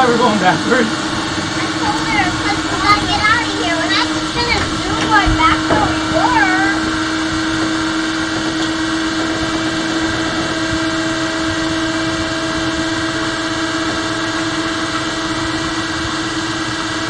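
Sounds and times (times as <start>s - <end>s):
electric motor whining: 0.0s - 17.0s
rushing water noise: 0.0s - 17.0s.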